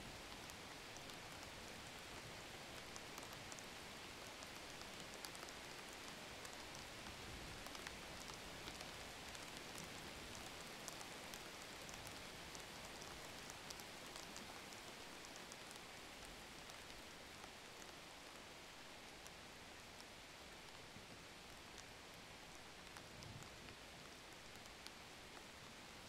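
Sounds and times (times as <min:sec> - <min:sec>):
hiss with scattered crackles: 0:00.0 - 0:26.0.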